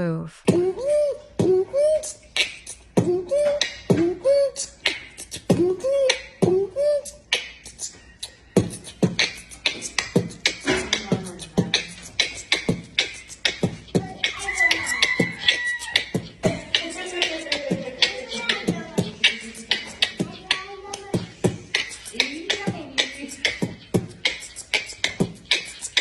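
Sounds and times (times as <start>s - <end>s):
short sung notes: 0.0s - 26.0s
beatboxing: 0.4s - 26.0s.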